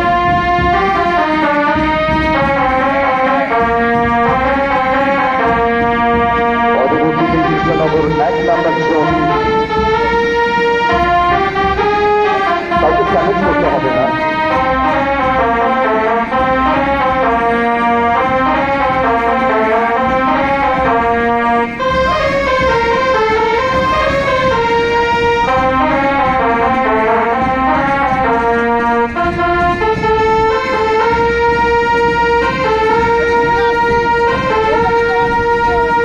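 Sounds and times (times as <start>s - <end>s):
brass band playing a march: 0.0s - 36.0s.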